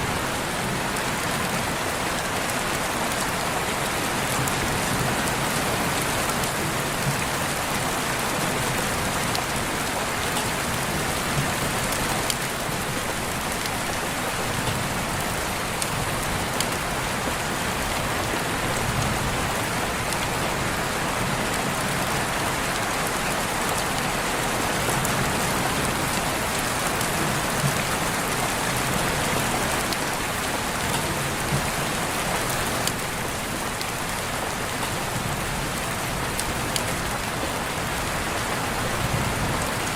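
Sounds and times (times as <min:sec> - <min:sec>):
heavy rain falling: 0:00.0 - 0:39.9
raindrops ticking on surfaces: 0:00.1 - 0:39.9.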